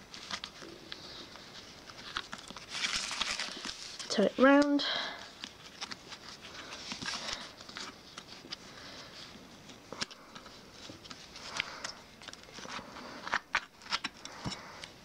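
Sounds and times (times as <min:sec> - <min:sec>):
faint rustling and scratching: 0:00.0 - 0:15.0.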